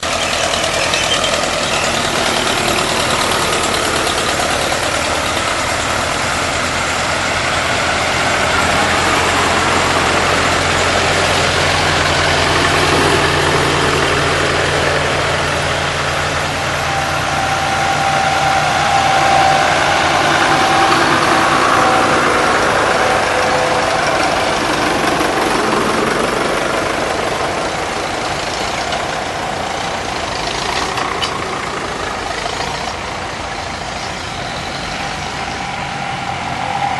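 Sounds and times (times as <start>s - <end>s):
low steady engine note: 0.0s - 36.9s
tractor engines running: 0.0s - 36.9s.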